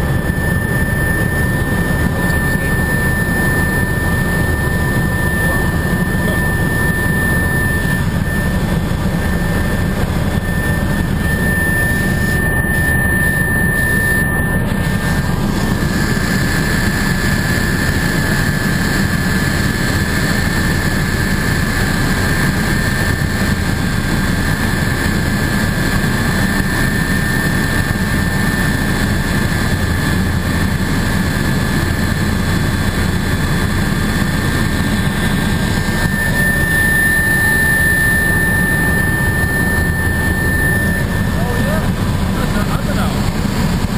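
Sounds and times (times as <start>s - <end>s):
helicopter rotor and engine noise: 0.0s - 43.9s
steady high whine: 0.0s - 43.9s.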